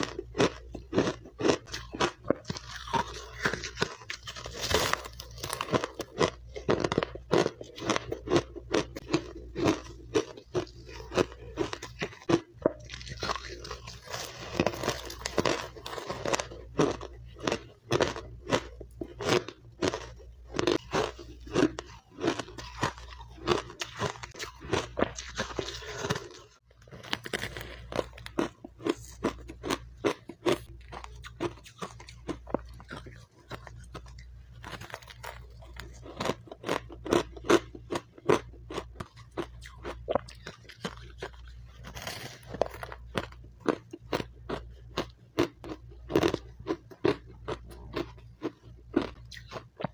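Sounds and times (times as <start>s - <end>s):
crisp crunching of ice: 0.0s - 38.8s, 39.4s - 49.6s.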